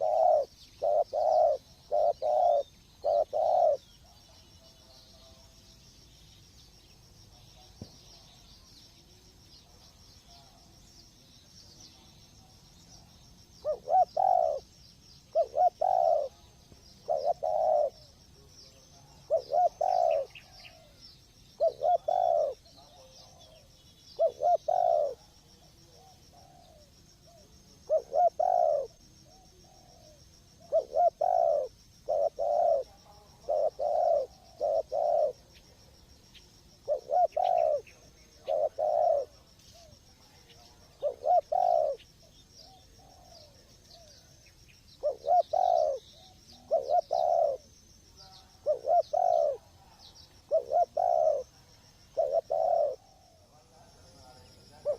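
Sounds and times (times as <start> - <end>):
dove cooing: 0.0 - 5.4, 12.4 - 21.0, 21.6 - 44.4, 45.0 - 54.9.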